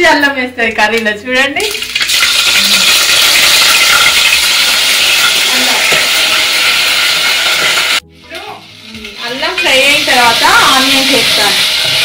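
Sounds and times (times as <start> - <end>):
ginger sizzling in hot oil: 1.6 - 12.0.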